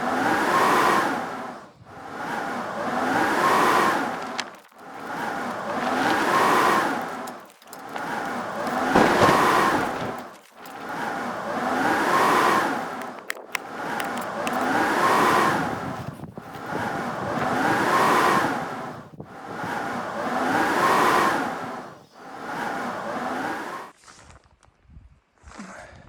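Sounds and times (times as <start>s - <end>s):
engine revving: 0.0s - 23.9s.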